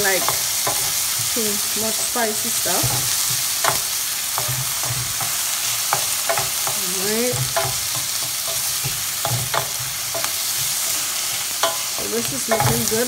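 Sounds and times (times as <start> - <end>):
utensil scraping a pan: 0.0 - 13.0
vegetables sizzling in a pan: 0.0 - 13.0.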